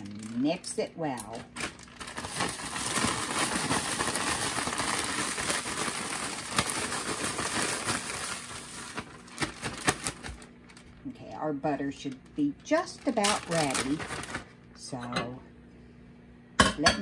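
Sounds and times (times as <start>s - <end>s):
plastic bag of sugar crinkling: 0.0s - 14.7s.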